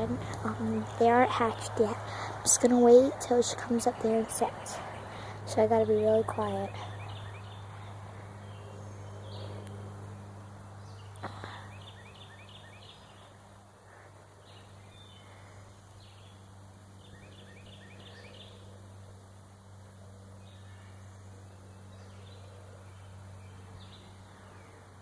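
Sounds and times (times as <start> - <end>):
faint birds calling: 0.0 - 25.0
steady low hum: 0.0 - 25.0.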